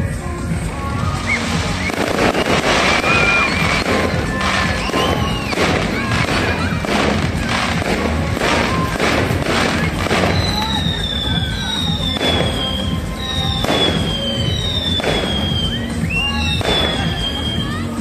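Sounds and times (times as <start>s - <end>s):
fireworks banging and crackling: 0.0s - 18.0s
music playing: 0.0s - 18.0s.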